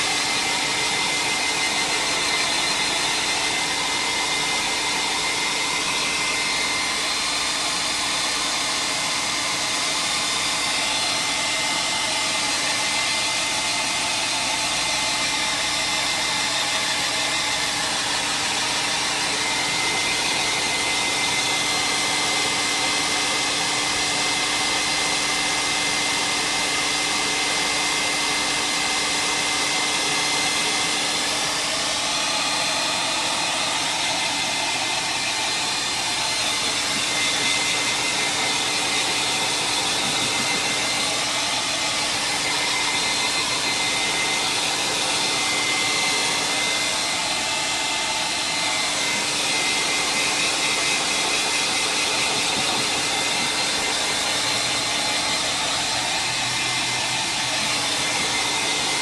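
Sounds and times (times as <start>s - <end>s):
hot-air dryer running: 0.0s - 59.0s.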